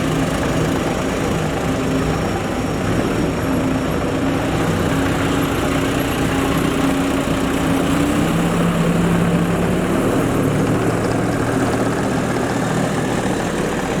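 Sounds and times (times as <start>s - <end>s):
loader engine running: 0.0s - 14.0s.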